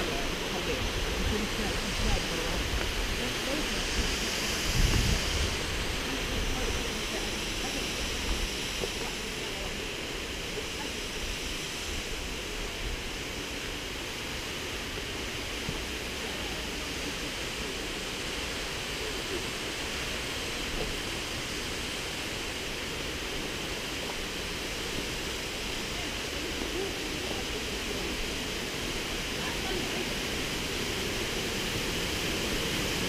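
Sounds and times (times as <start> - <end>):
stream and waterfall rushing: 0.0 - 10.6, 11.6 - 33.0.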